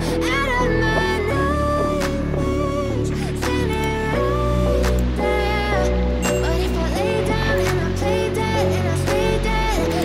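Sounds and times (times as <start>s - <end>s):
background pop music: 0.0s - 10.0s.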